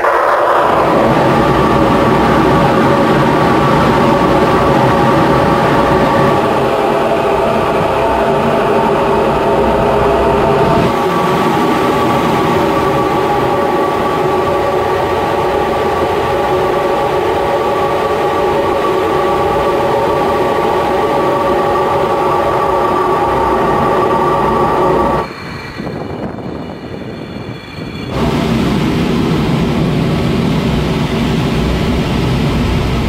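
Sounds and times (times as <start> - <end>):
high whining tones: 0.0 - 33.0
jet engine rumble: 0.0 - 33.0.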